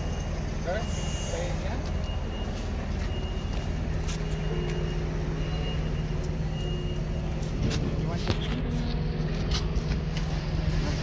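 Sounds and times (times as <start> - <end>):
constant low hum: 0.0 - 11.0
vehicle engine idling: 0.0 - 11.0.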